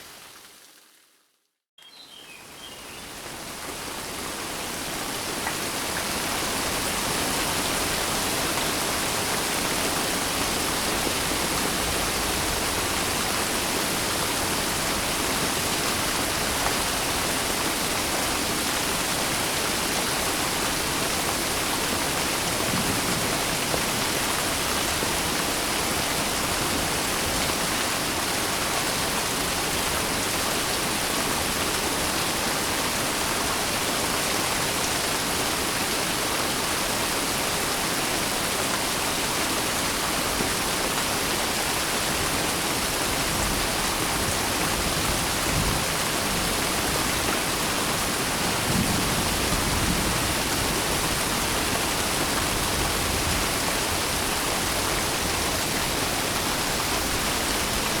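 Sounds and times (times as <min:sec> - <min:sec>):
heavy rain: 0:02.4 - 0:58.0.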